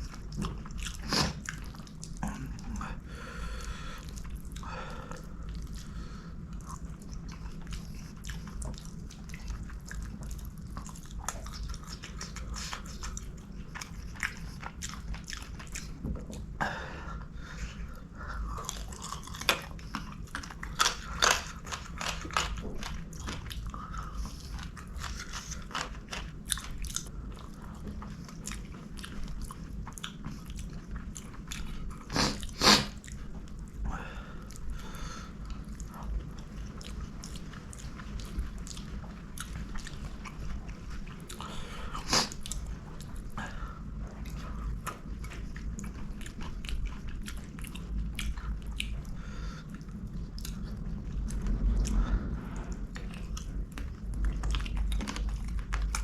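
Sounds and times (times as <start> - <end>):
person chewing food: 0.0 - 56.0
food crunching: 4.0 - 16.6, 17.8 - 56.0.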